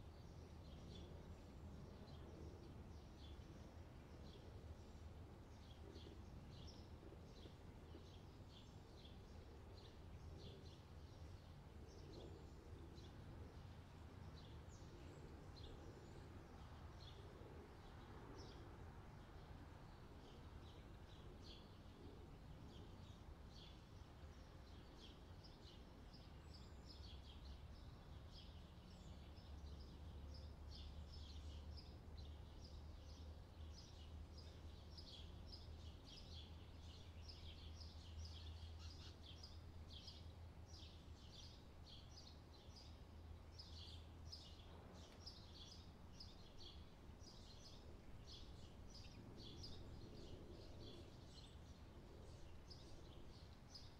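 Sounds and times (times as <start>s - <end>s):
low steady hum: 0.0s - 53.9s
small birds chirping: 0.0s - 53.9s.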